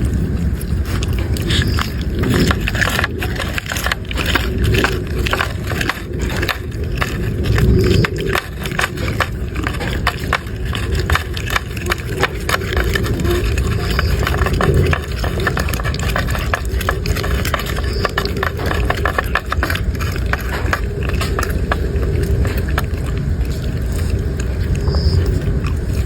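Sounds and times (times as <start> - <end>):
dog crunching food: 0.0 - 26.0
scraping: 0.0 - 26.0
steady low rumble: 0.0 - 26.0.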